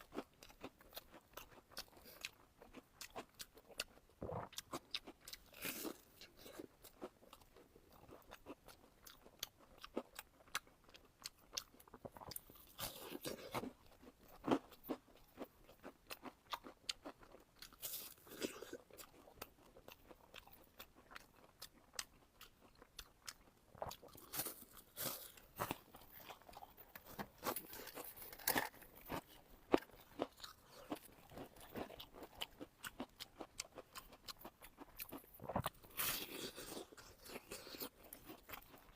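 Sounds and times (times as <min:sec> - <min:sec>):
crunchy chewing of food: 0:00.0 - 0:38.9.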